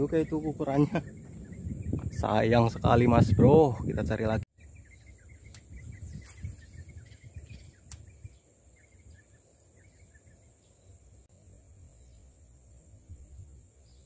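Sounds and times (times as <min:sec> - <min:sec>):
small birds twittering: 0:00.0 - 0:14.0.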